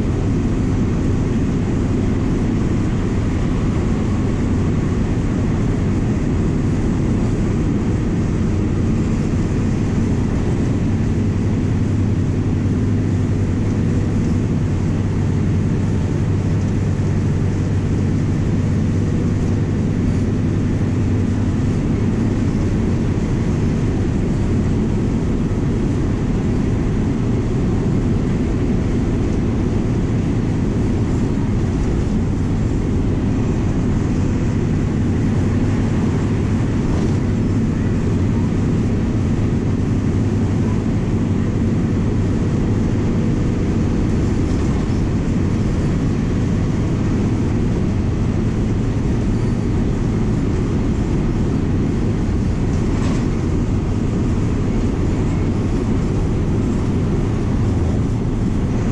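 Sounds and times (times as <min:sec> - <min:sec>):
bus diesel engine droning: 0:00.0 - 0:58.9
road noise: 0:00.0 - 0:58.9.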